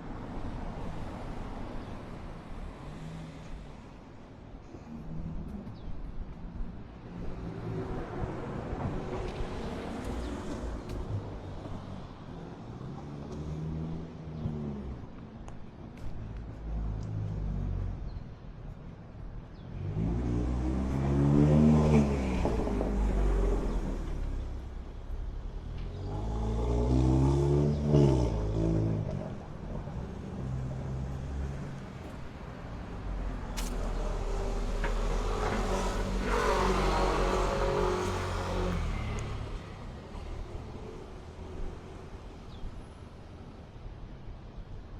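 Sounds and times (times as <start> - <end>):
low traffic rumble: 0.0 - 44.9
vehicles passing close by: 0.0 - 44.9.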